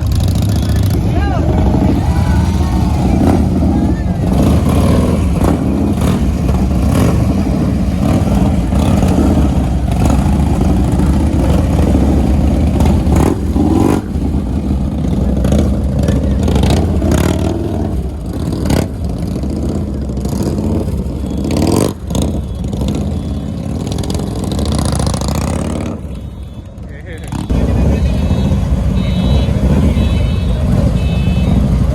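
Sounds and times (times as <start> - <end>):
motorcycle engines revving: 0.0 - 31.9.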